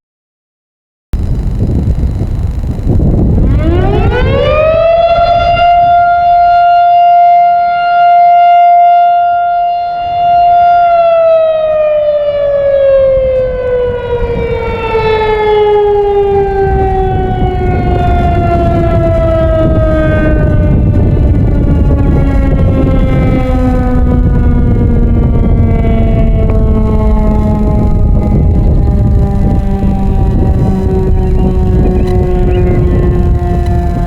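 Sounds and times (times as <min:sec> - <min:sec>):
warning siren wailing: 0:01.2 - 0:34.0.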